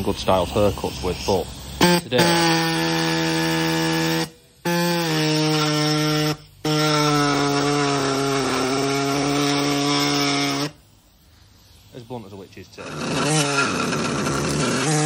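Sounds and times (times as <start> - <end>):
air saw cutting metal pipe: 0.0 - 10.8, 12.0 - 15.0.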